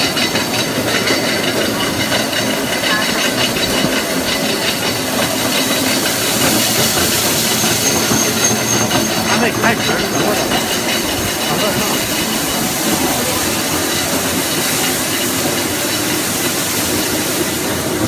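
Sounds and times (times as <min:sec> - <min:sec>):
mill machine running: 0:00.0 - 0:18.0.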